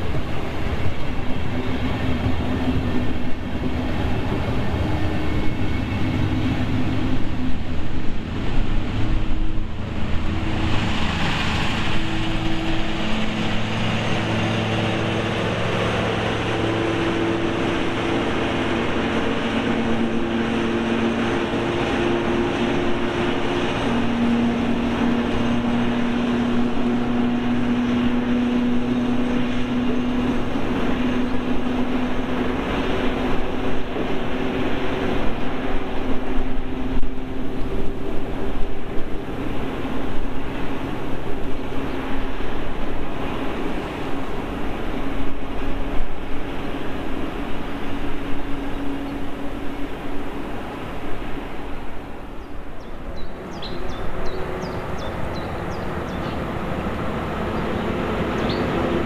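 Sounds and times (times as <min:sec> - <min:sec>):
locomotive passing: 0:00.0 - 0:59.0
train cars rumbling on rails: 0:00.0 - 0:59.0.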